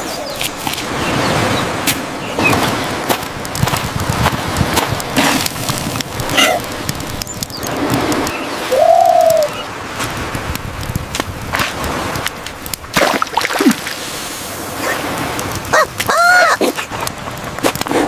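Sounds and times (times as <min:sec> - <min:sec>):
crackling rushing background: 0:00.0 - 0:18.0.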